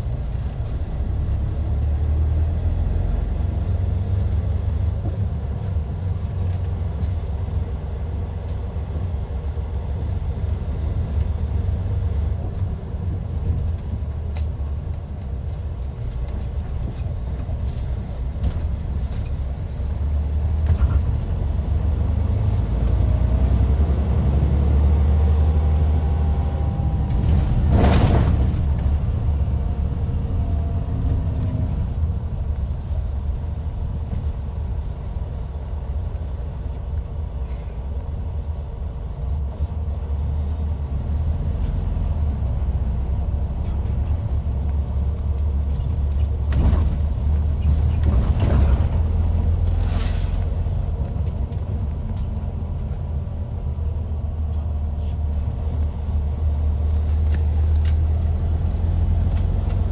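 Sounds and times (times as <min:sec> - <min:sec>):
diesel coach engine droning: 0:00.0 - 0:59.9.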